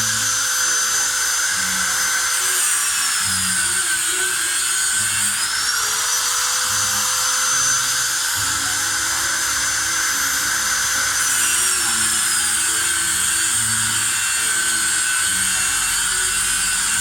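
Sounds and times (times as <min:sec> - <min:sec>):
power tool motor whining: 0:00.0 - 0:17.0.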